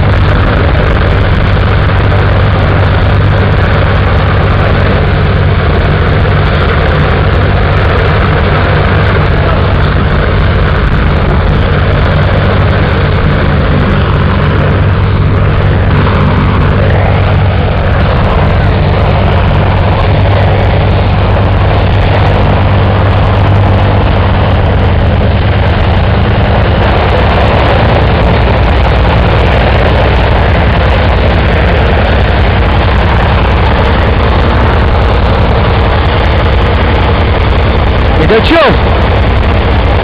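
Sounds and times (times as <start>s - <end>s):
radial aircraft engine running: 0.0s - 40.0s.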